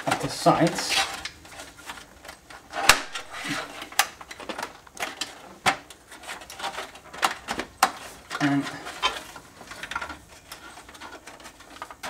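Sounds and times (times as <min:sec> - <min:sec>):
plastic scraping and rustling: 0:00.0 - 0:12.0.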